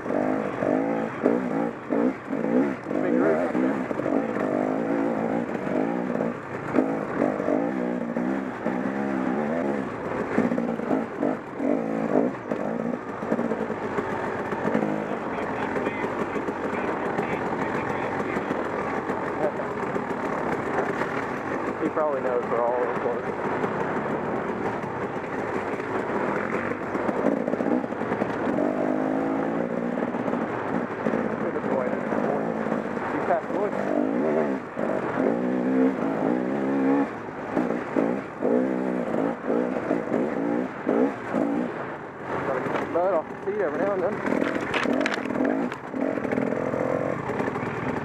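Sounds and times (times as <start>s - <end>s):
two-stroke motorcycle engine revving: 0.0s - 48.0s.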